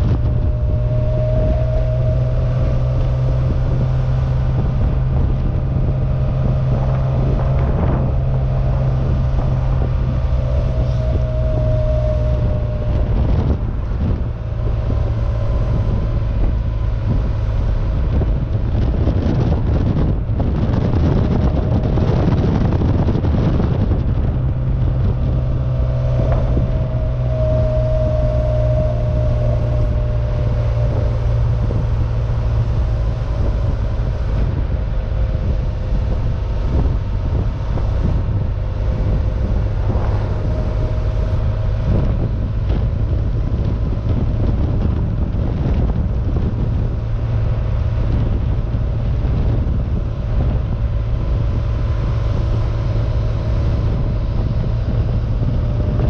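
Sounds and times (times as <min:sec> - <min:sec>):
car engine running steadily: 0:00.0 - 0:56.0
road noise: 0:00.0 - 0:56.0
wind noise: 0:00.0 - 0:56.0.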